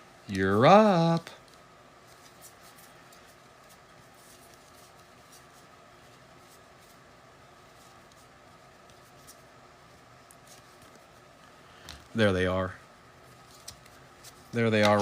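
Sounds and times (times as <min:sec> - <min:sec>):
low room hum: 0:00.0 - 0:15.0
cards and plastic sleeves rustling: 0:00.3 - 0:15.0.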